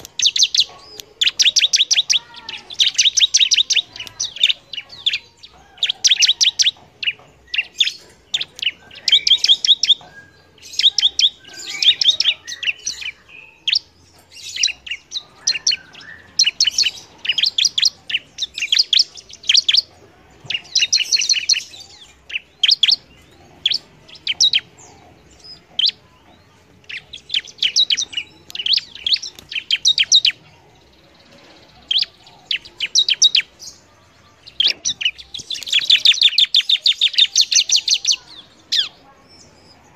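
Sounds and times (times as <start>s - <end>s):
bird singing sharp high chirps: 0.0s - 39.9s.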